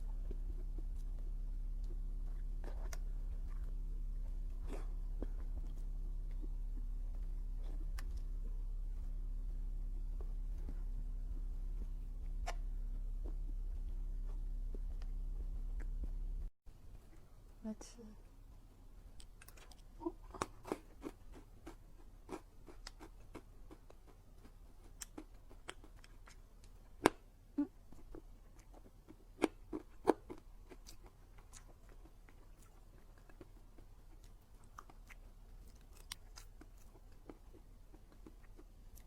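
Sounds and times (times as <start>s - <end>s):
close-miked eating and chewing: 0.0s - 39.0s.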